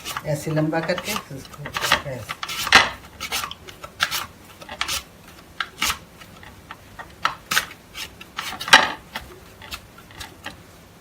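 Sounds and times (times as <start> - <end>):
potato rasping on hand grater: 0.0 - 10.7.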